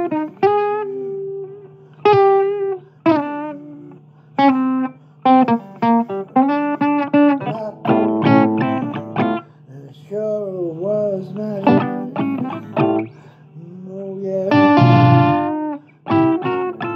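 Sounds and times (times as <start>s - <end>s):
blues guitar plucked notes: 0.0s - 9.5s, 11.4s - 13.1s, 14.3s - 16.9s.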